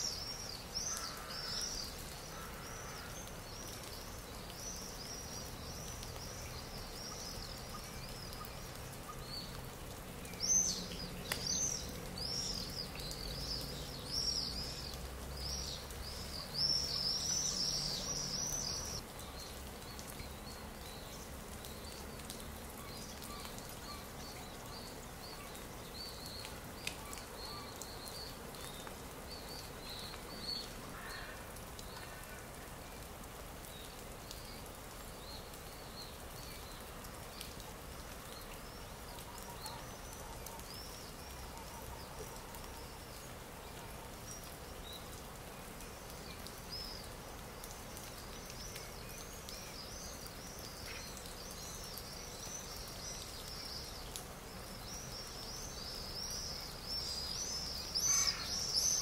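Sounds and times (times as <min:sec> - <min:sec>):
birds chirping: 0:00.0 - 0:32.1, 0:33.7 - 0:59.0
steady background hiss: 0:00.0 - 0:59.0.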